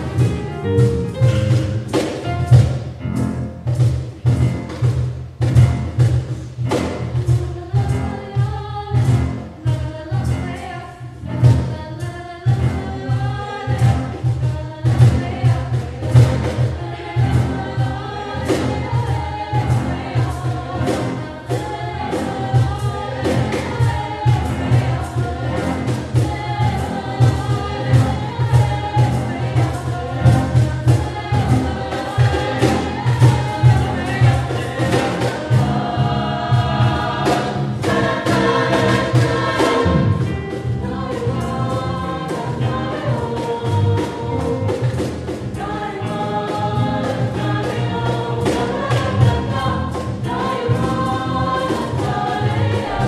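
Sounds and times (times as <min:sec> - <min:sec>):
choir singing: 0:00.0 - 0:01.9, 0:06.7 - 0:53.0
steady percussive beat: 0:00.0 - 0:53.0.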